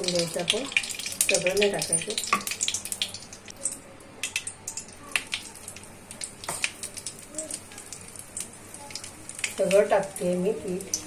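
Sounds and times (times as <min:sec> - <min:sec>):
ghee crackling and sizzling: 0:00.0 - 0:11.0.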